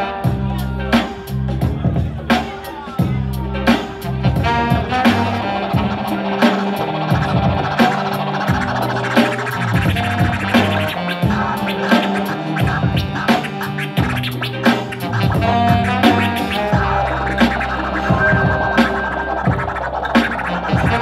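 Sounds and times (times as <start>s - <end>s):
bass line: 0.0s - 21.0s
drum beat: 1.0s - 21.0s
record scratching on turntable: 3.7s - 21.0s.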